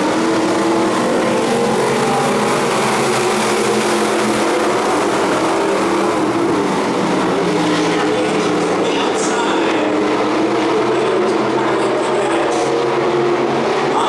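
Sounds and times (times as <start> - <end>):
stock car engines racing: 0.0 - 14.0.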